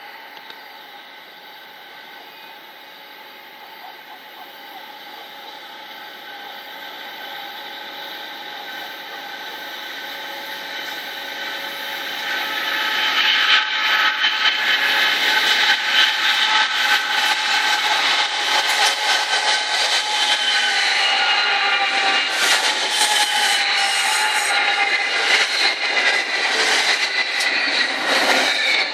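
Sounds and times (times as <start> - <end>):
train whining tones: 0.0 - 28.9.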